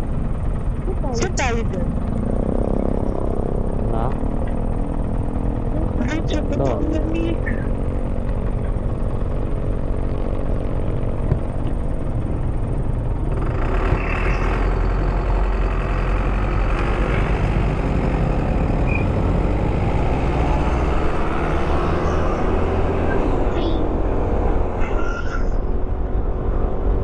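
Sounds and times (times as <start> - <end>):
engines running in traffic: 0.0 - 27.0.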